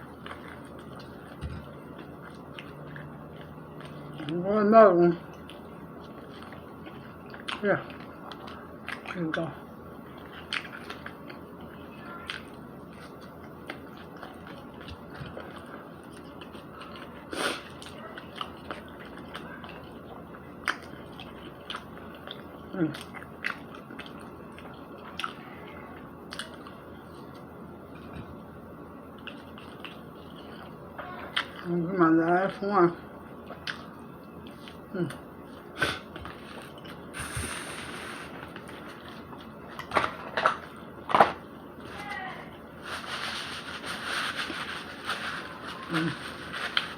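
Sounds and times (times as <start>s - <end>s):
soft wet chewing: 0.0s - 41.1s.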